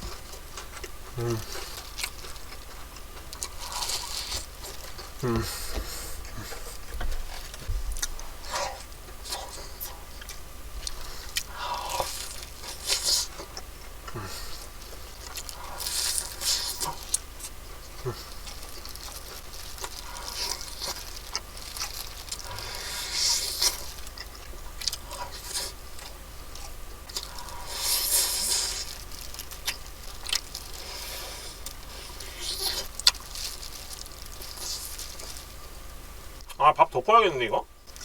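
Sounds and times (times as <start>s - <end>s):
crunchy bites of fried chicken: 0.0s - 36.6s.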